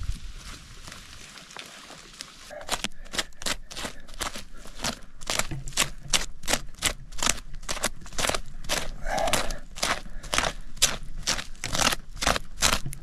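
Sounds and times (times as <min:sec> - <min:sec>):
hand scraping damp soil: 0:00.0 - 0:13.0.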